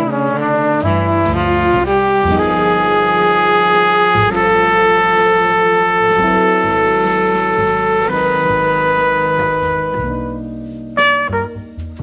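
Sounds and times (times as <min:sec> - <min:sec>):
brass horn long held notes: 0:00.0 - 0:11.7
drums: 0:00.0 - 0:12.0
upright bass: 0:00.0 - 0:12.0.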